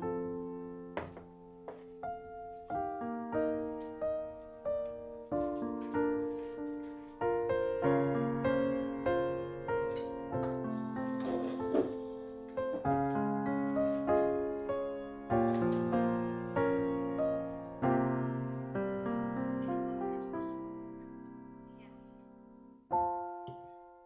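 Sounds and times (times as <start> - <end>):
calm solo piano music: 0.0 - 24.0.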